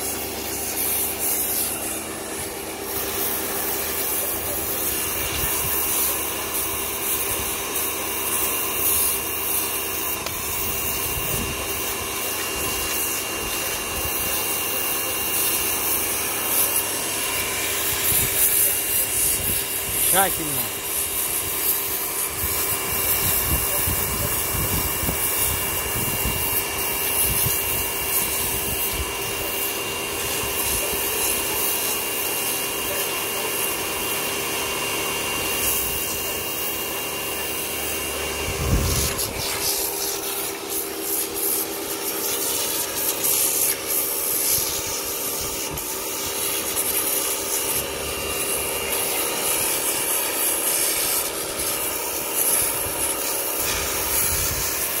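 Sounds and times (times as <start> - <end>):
pressure washer water jet hissing: 0.0 - 55.0
pump humming: 0.0 - 55.0
thin high whine: 0.0 - 55.0.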